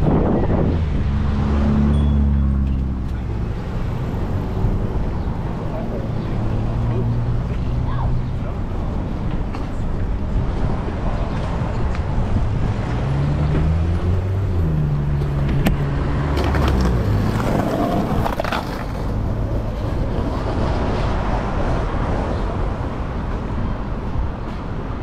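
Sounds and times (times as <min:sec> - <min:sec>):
vehicle engine humming: 0:00.0 - 0:21.7
road noise: 0:00.0 - 0:25.0.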